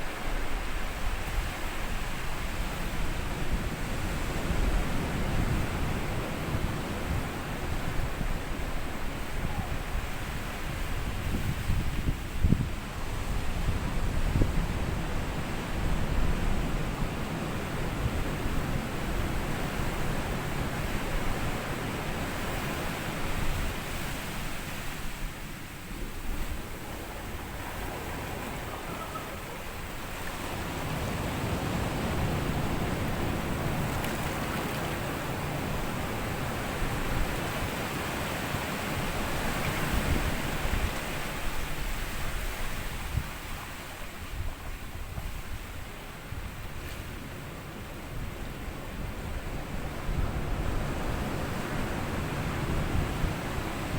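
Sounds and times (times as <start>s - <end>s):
waves washing over sandy shore: 0.0s - 53.9s.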